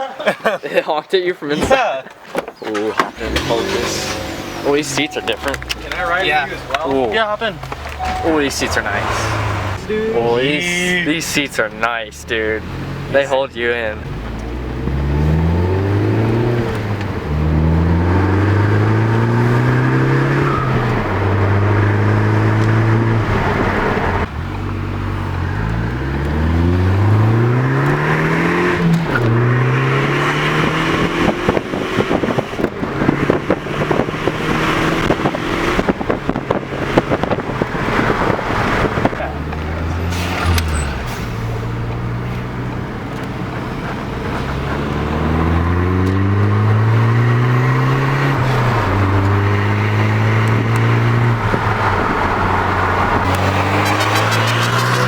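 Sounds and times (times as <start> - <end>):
car engine accelerating: 2.9 - 55.0.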